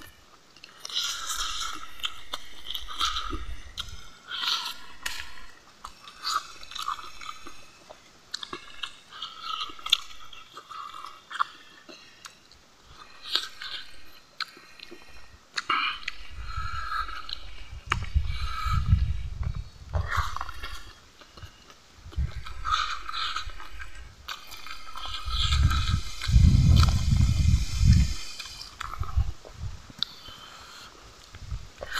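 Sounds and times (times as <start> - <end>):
man chewing food: 0.0 - 31.9.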